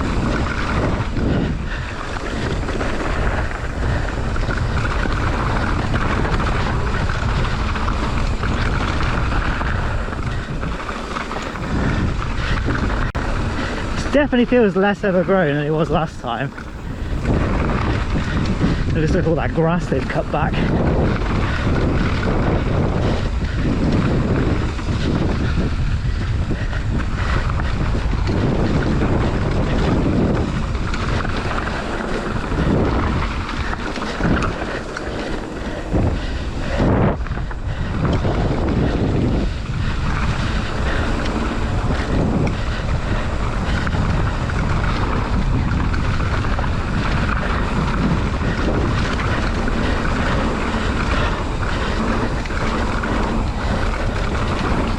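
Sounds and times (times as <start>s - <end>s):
bike clattering over bumps: 0.0s - 54.9s
tyres rumbling on dirt: 0.0s - 54.9s
wind buffeting microphone: 0.0s - 54.9s.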